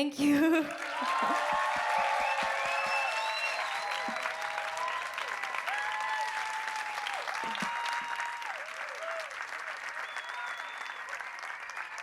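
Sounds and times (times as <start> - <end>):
audience applauding: 0.4 - 12.0
people cheering: 0.6 - 12.0.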